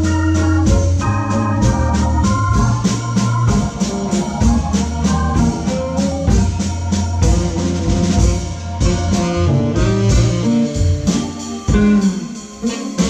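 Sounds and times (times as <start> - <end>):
walking bass line: 0.0 - 12.3
drums keeping steady beat: 0.0 - 13.0
live blues band: 0.0 - 13.0
organ holding chords: 0.0 - 13.0.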